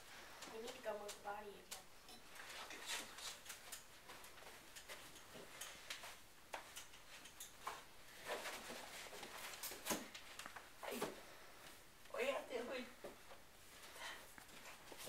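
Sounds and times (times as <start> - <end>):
people handling things: 0.0 - 11.9, 13.0 - 15.0.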